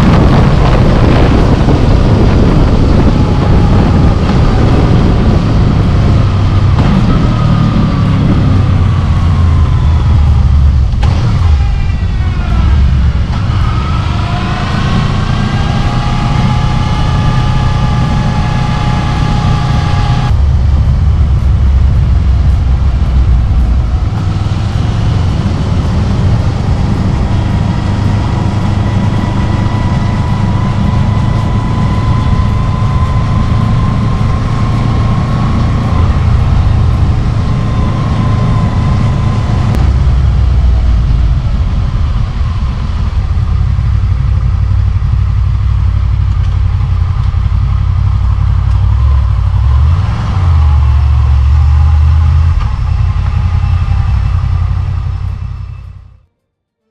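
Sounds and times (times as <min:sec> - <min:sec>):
motorcycle engine running: 0:00.0 - 0:56.3.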